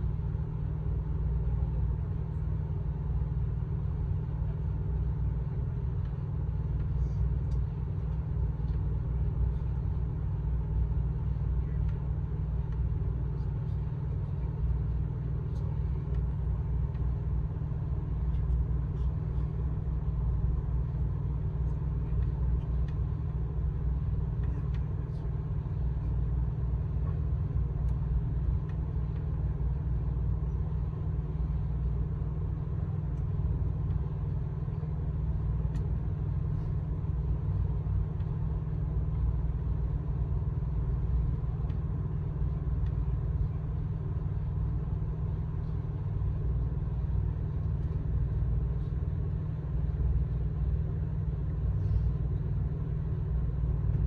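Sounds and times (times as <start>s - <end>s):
passenger train rumbling: 0.0s - 54.0s.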